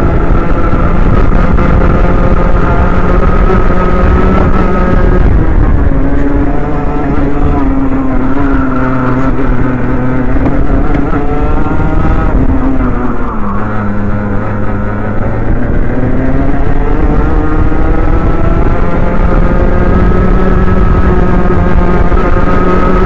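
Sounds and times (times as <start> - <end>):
kart engine at racing speed: 0.0 - 23.0.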